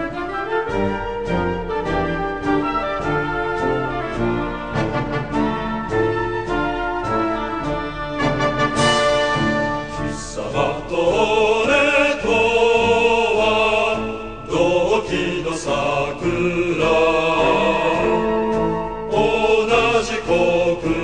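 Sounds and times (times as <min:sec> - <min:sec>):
choir singing: 0:00.0 - 0:21.0
instrumental accompaniment: 0:00.0 - 0:21.0.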